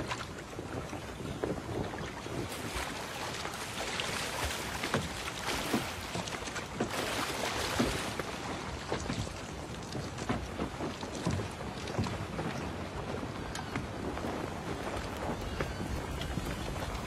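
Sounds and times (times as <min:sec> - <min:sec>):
river water splashing: 0:00.0 - 0:17.0
wind: 0:00.0 - 0:17.0.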